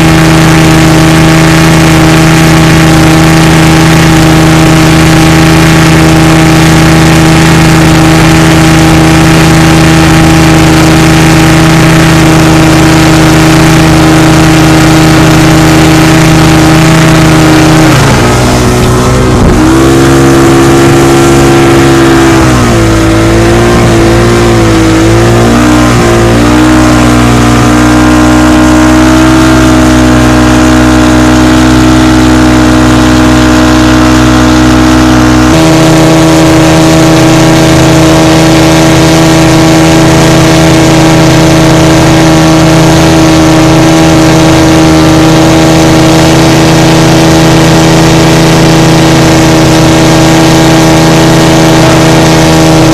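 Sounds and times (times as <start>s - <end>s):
motorboat engine running: 0.0s - 52.9s.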